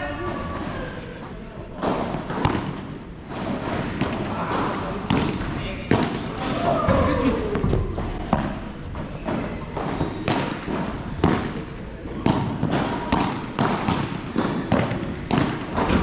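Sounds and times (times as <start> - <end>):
racket hitting ball: 1.8 - 7.0, 8.0 - 16.0
ball bouncing: 1.8 - 16.0.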